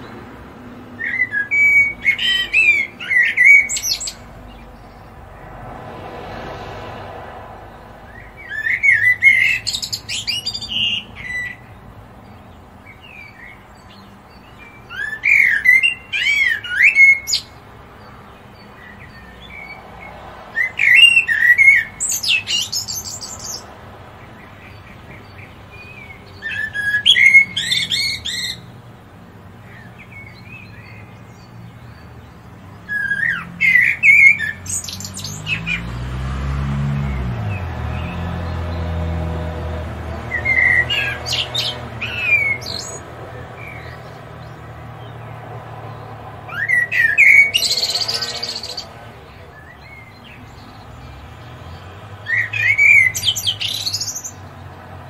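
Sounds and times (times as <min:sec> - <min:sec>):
robin singing warbling phrases: 0:00.9 - 0:05.2, 0:08.0 - 0:28.7, 0:29.6 - 0:35.9, 0:40.0 - 0:54.8.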